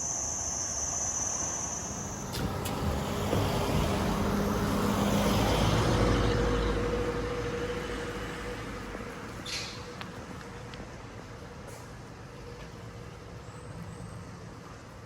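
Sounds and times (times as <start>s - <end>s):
road noise: 0.0s - 15.0s
vehicle engine: 1.5s - 15.0s.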